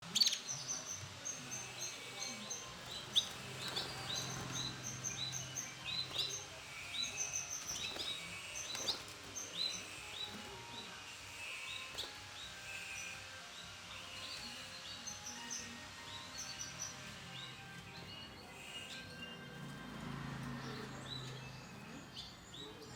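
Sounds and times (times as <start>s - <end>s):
canaries chirping: 0.0s - 22.9s.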